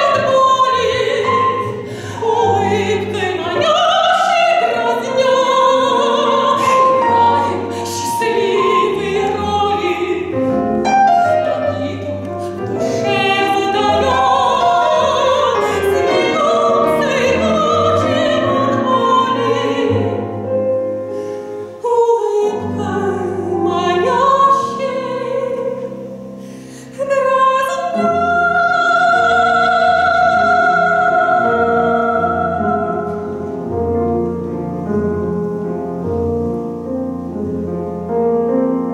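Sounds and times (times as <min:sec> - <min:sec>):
soprano singing opera: 0:00.0 - 0:34.3
piano: 0:00.0 - 0:38.9.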